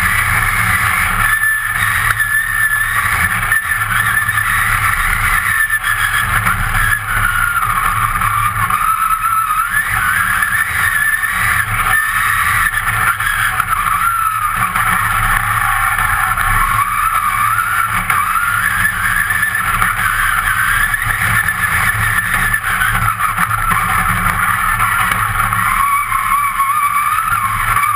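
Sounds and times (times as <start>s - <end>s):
race car engine from cabin: 0.0s - 27.9s.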